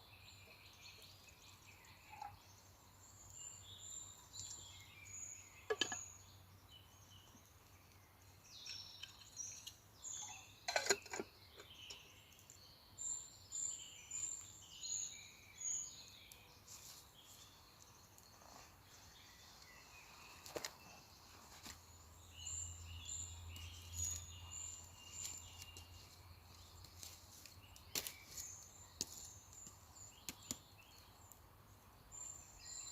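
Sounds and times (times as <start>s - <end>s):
birds singing and chirping: 0.0s - 32.9s.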